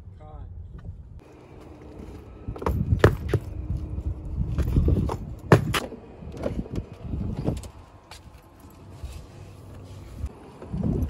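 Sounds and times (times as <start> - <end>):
wheeled luggage scraping and rumbling: 1.2 - 11.0.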